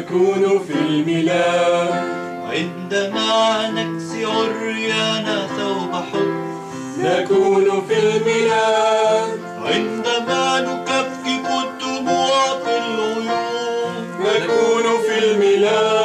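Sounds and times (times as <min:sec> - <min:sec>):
instrumental accompaniment: 0:00.0 - 0:16.0
man singing a hymn: 0:00.0 - 0:16.0.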